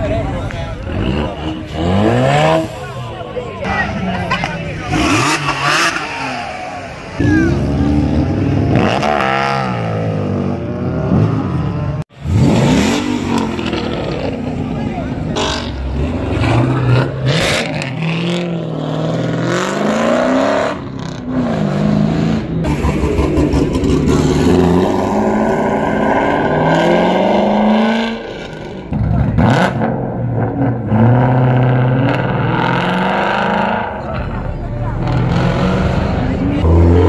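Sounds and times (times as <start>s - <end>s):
sports car engines revving: 0.0s - 37.0s.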